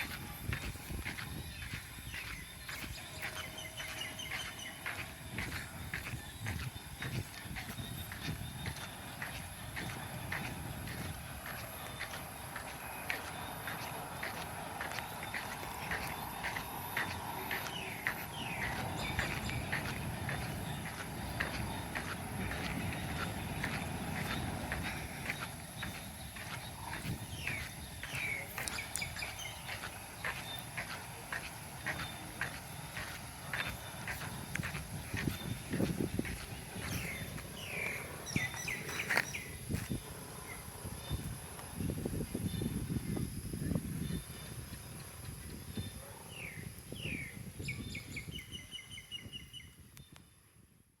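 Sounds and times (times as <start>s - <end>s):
bird chirps: 0.0s - 40.0s, 45.7s - 50.4s
footsteps on hard ground: 0.0s - 48.4s.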